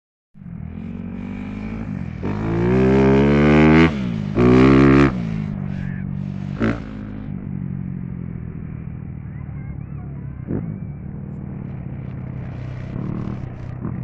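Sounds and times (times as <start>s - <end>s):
motorcycle engine revving: 0.4s - 14.0s.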